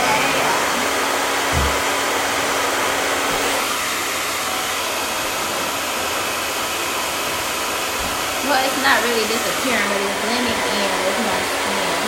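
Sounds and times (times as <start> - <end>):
blow dryer running: 0.0 - 12.0.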